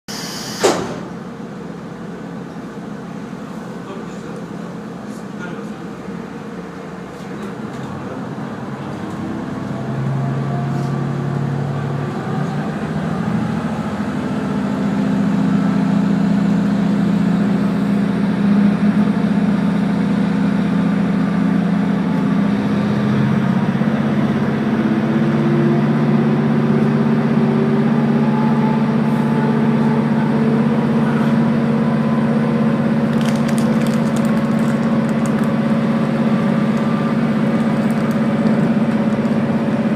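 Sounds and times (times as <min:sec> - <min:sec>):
diesel railcar engine humming: 0:00.1 - 0:39.9.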